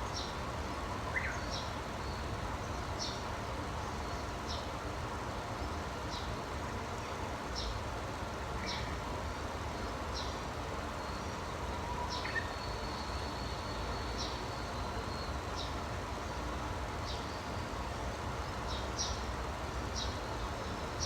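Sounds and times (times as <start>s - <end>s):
background hiss and rumble: 0.0s - 21.0s.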